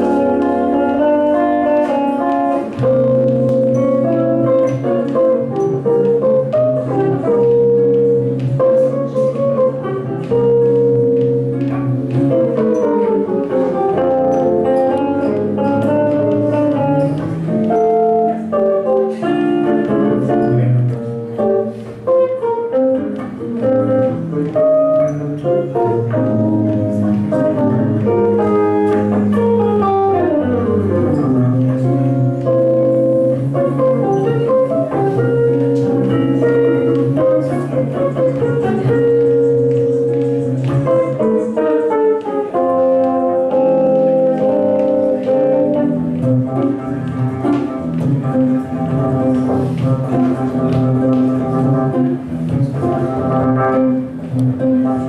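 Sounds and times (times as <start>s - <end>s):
two jazz guitars playing: 0.0s - 55.0s.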